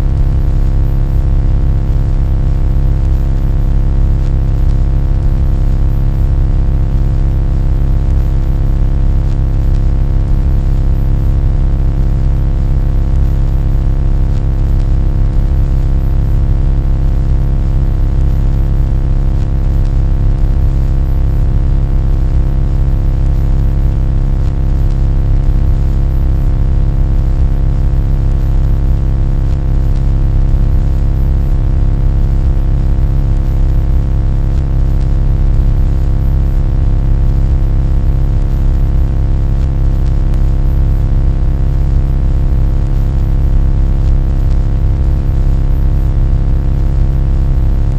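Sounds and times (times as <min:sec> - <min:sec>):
low droning hum with tones: 0:00.0 - 0:42.2, 0:42.8 - 0:46.6, 0:47.2 - 0:47.9.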